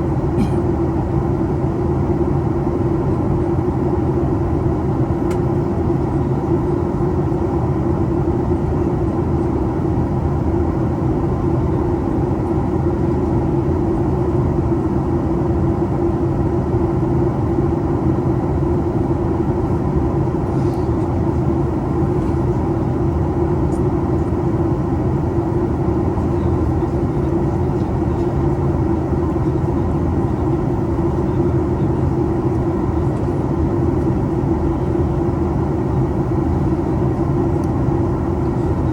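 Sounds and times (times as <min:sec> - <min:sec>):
air rushing along fuselage: 0:00.0 - 0:38.9
jet engines drone: 0:00.0 - 0:38.9.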